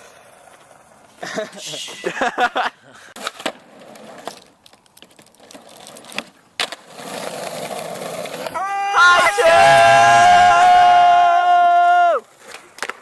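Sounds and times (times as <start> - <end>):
skateboard wheels rolling: 0.0 - 1.5, 3.2 - 13.0.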